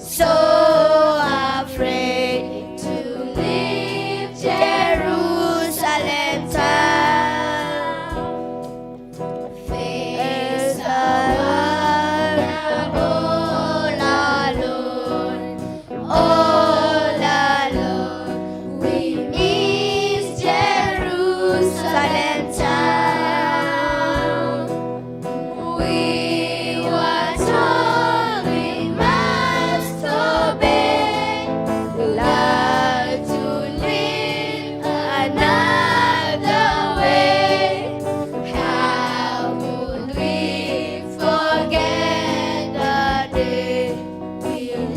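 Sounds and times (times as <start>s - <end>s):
group of voices singing: 0.0s - 8.4s, 9.4s - 44.9s
instrumental accompaniment: 0.0s - 44.9s.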